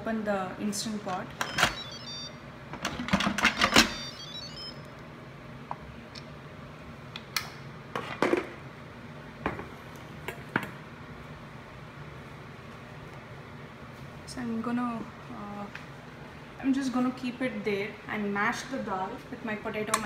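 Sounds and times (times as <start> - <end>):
kitchen vent fan humming: 0.0 - 20.0.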